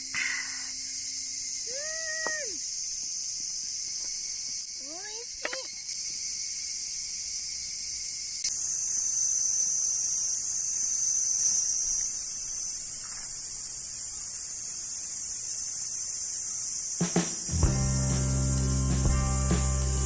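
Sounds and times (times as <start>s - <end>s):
insects chirping chorus: 0.0s - 20.0s
shrill insect tone: 0.0s - 20.0s.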